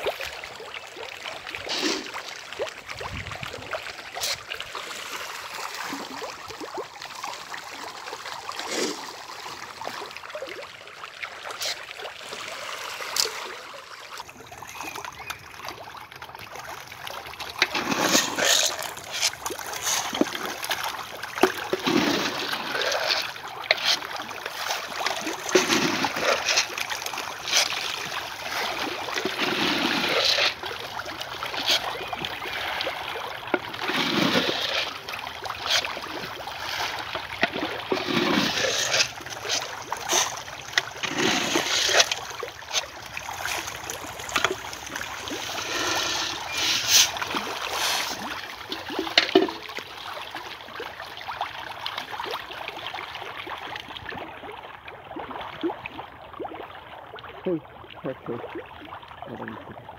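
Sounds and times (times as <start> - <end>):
fish thrashing and splashing: 0.0 - 56.7.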